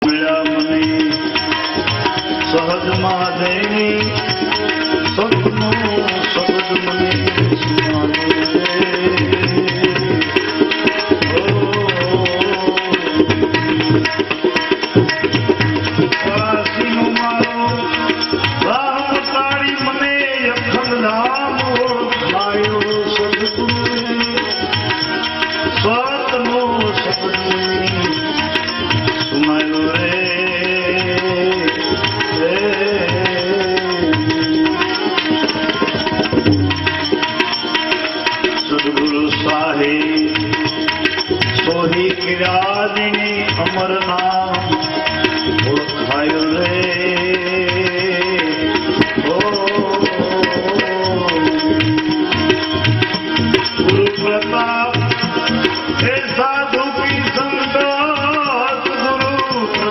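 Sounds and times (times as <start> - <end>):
held melodic notes: 0.0 - 59.9
tabla playing quick rhythm: 0.0 - 59.9.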